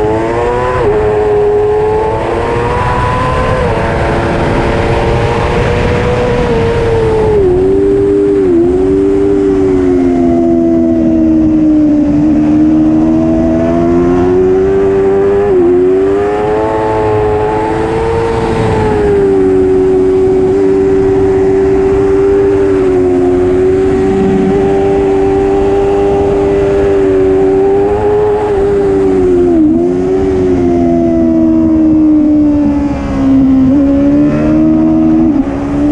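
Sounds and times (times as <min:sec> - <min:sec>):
motorcycle engine running hard: 0:00.0 - 0:35.9.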